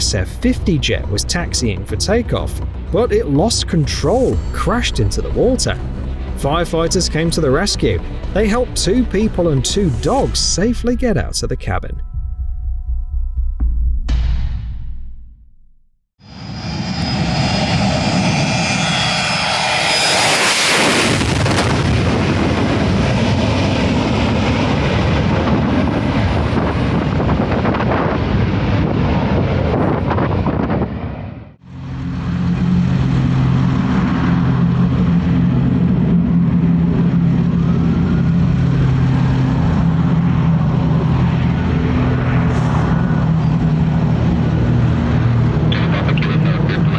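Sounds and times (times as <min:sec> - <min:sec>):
airplane engine rushing: 0:00.0 - 0:12.0, 0:16.2 - 0:46.9
airplane engine drone: 0:00.0 - 0:12.1, 0:16.2 - 0:46.9.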